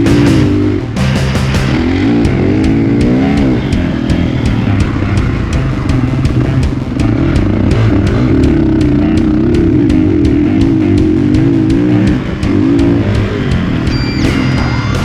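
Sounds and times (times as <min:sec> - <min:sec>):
background music with beat: 0:00.0 - 0:15.0
motorcycle engine revving: 0:00.0 - 0:15.0.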